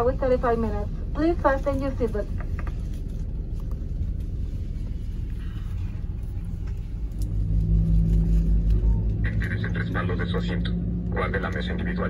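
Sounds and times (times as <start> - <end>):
jet engine rumble inside cabin: 0.0 - 12.0
steady low hum: 0.0 - 12.0.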